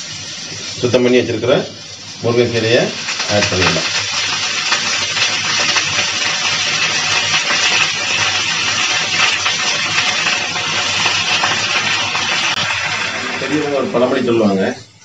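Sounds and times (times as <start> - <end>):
oil sizzling in pan: 0.0 - 15.0.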